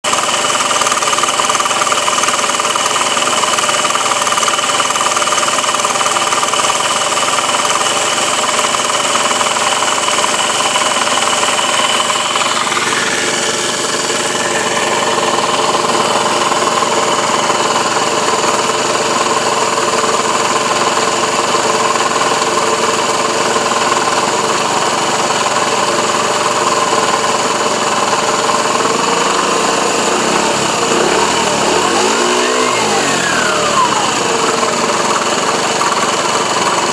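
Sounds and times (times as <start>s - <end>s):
scooter engine idling with rattle: 0.0s - 36.9s.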